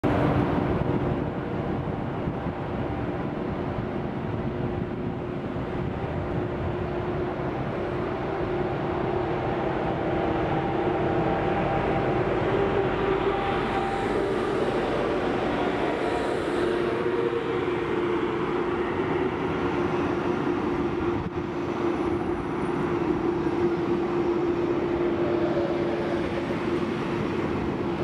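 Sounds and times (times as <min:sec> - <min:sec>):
electric locomotive running hum: 0:00.0 - 0:28.0
rail and wheel noise: 0:00.0 - 0:28.0.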